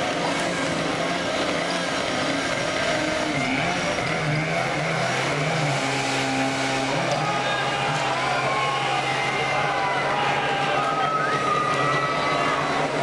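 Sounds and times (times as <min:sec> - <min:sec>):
small engine running hard: 0:00.0 - 0:13.0.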